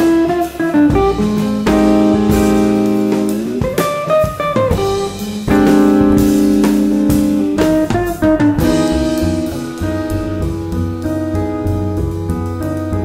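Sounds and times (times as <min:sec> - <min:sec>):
drum kit: 0:00.0 - 0:13.0
jazz guitar: 0:00.0 - 0:13.0.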